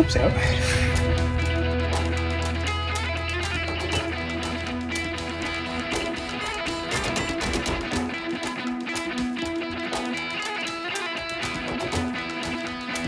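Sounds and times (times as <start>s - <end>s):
strummed electric guitar music: 0.0s - 13.0s.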